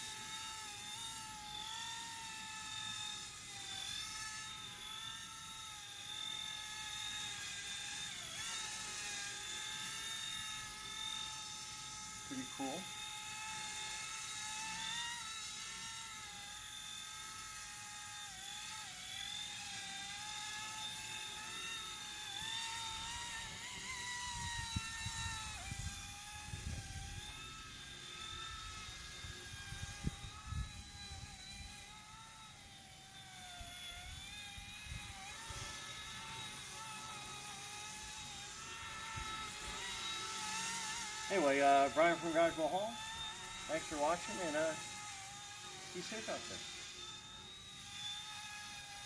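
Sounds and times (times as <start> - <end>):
rc helicopter propeller whine: 0.0 - 49.0.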